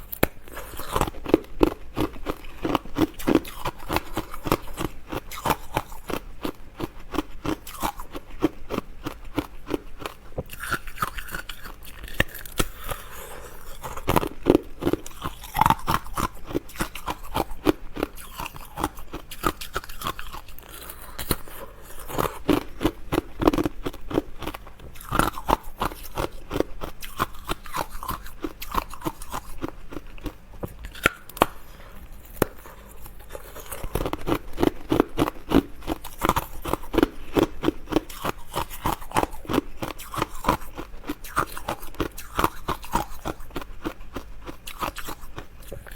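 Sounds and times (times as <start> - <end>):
crunchy chewing: 0.0 - 45.9.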